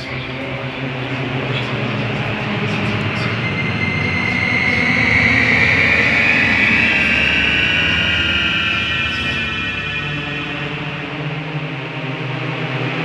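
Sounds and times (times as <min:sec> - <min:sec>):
eerie rushing drone: 0:00.0 - 0:13.0
high gliding whine: 0:00.0 - 0:13.0.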